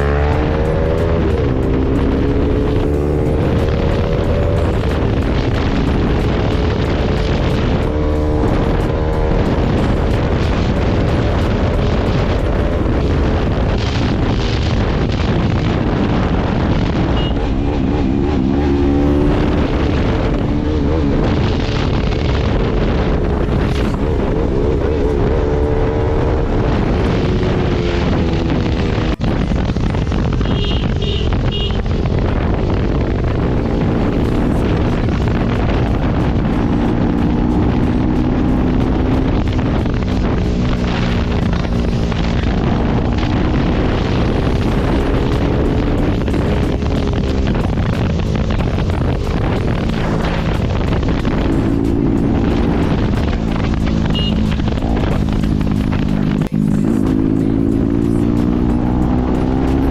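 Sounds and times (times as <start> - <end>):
motorcycle engine revving: 0.0 - 59.9
wind on microphone: 0.0 - 59.9.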